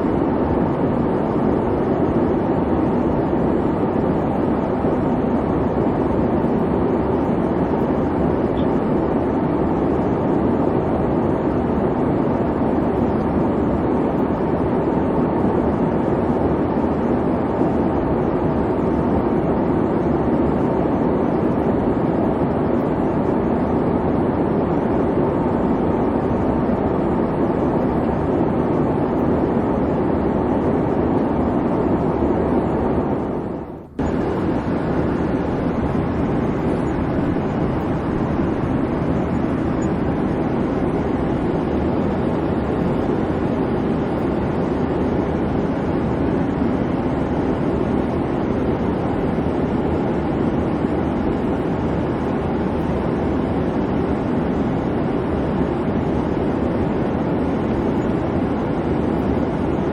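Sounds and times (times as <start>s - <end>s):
airplane cabin engine hum: 0.0s - 59.9s.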